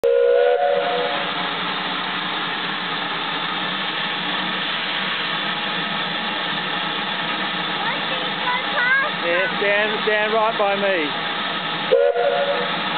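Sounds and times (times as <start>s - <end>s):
steam hissing from locomotive: 0.1s - 12.9s.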